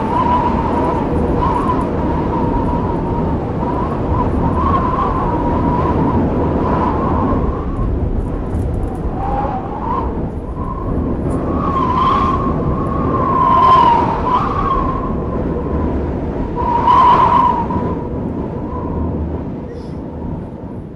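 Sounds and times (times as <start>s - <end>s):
blizzard wind howling: 0.0s - 20.9s.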